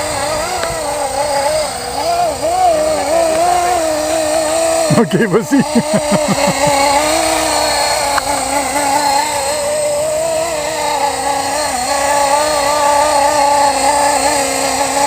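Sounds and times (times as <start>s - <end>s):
rc helicopter motor whining: 0.0s - 15.0s.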